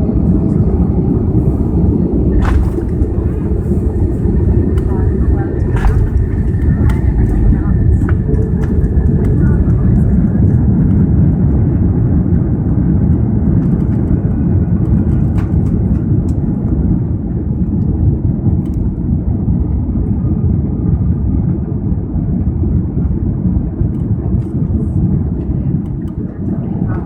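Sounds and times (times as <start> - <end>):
low rumble in aircraft cabin: 0.0 - 27.0.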